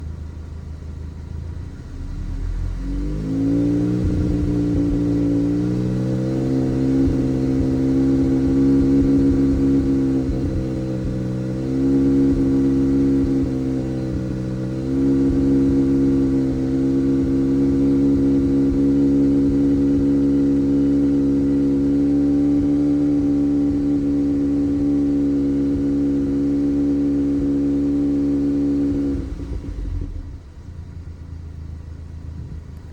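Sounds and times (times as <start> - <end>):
low engine rumble: 0.0 - 32.9.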